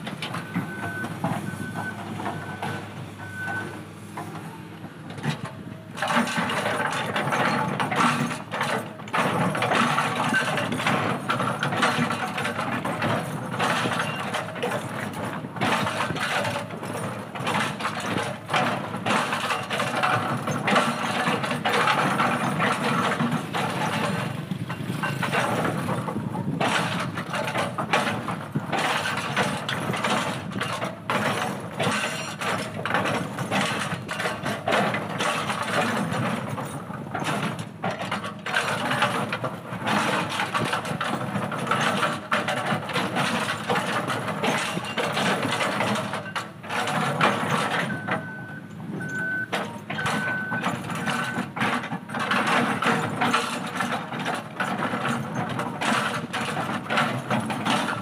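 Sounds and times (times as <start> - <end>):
hydraulic breaker pounding rock: 0.0 - 58.0.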